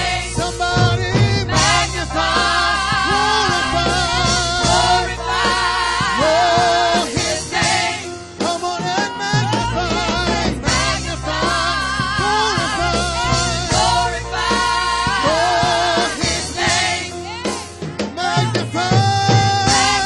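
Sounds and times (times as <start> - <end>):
band with steady bass line: 0.0 - 20.0
gospel singer with vibrato: 0.0 - 20.0.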